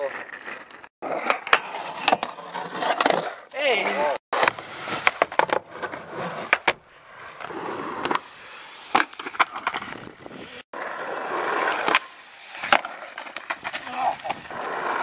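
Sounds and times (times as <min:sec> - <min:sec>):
skateboard wheels rolling on concrete: 0:00.0 - 0:15.0
skateboard popping and landing clacks: 0:01.0 - 0:08.2, 0:08.9 - 0:10.4, 0:11.3 - 0:15.0.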